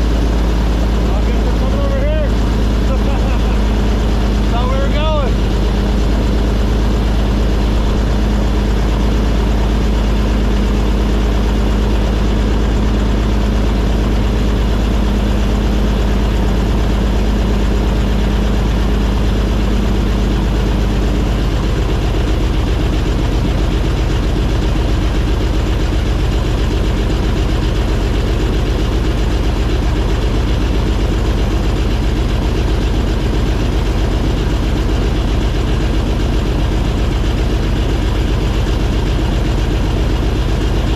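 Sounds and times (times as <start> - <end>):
airboat engine and propeller drone: 0.0 - 40.9.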